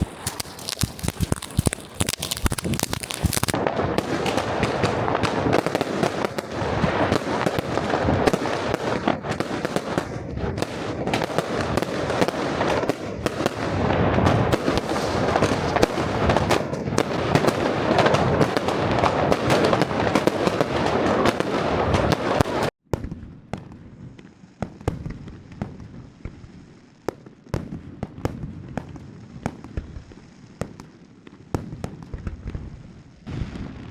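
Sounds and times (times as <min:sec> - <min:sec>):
fireworks and firecrackers bangs: 0:00.0 - 0:33.9.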